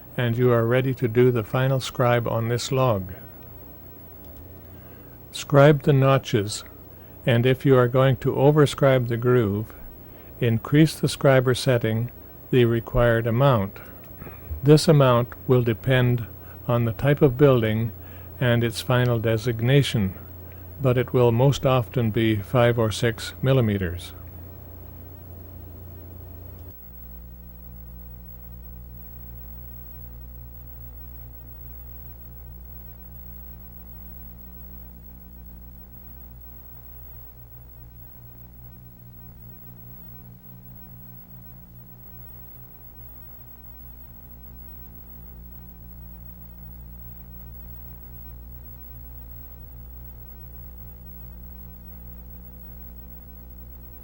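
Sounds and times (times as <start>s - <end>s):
faint hiss: 0.0s - 54.0s
low electrical hum: 0.0s - 54.0s.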